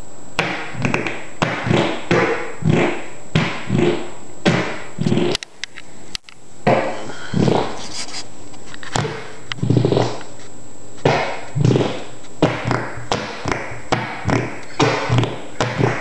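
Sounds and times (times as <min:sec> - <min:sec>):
fart-like squeaks of back on floor: 0:00.6 - 0:05.4, 0:06.7 - 0:08.2, 0:08.8 - 0:10.4, 0:11.0 - 0:16.0.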